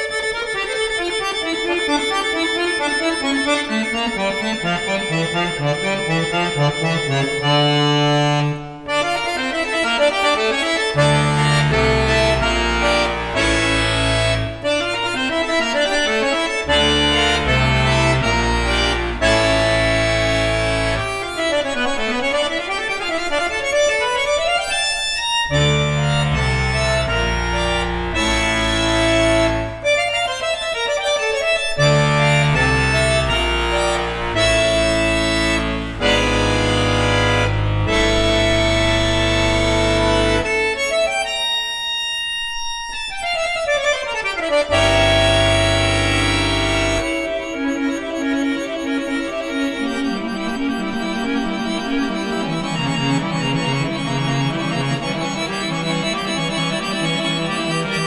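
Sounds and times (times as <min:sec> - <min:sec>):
button accordion playing: 0:00.0 - 0:58.0.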